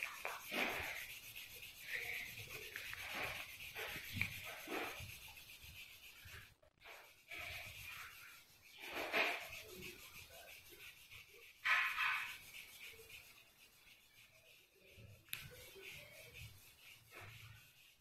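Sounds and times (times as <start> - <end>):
pencil shading on paper: 0.0 - 18.0.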